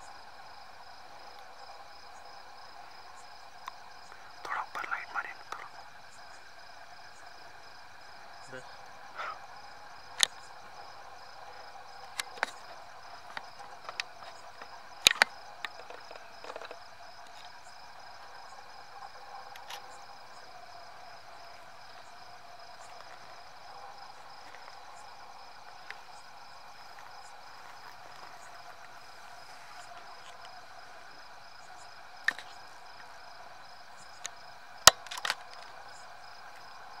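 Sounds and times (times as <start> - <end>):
cricket chirping: 0.0 - 37.0
insect hum: 0.0 - 37.0.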